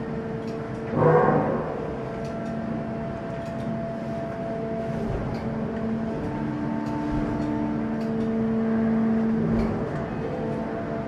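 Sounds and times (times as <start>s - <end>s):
forge machinery humming: 0.0s - 11.0s.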